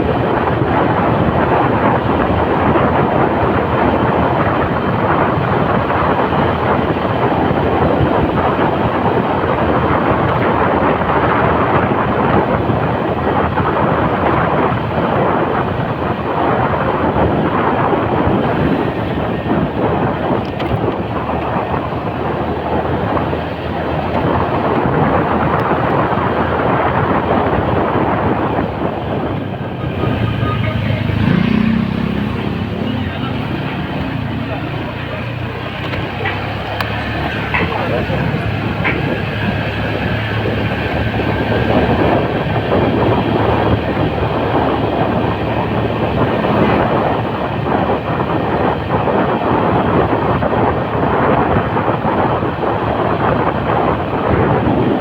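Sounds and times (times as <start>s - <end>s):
motorcycle engine: 0.0s - 55.0s
wind on microphone: 0.0s - 55.0s.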